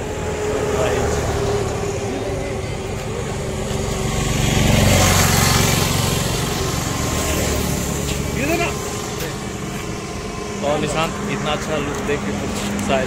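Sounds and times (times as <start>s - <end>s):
road traffic passing: 0.0s - 13.0s
vehicle engine and tyre noise: 0.0s - 13.0s.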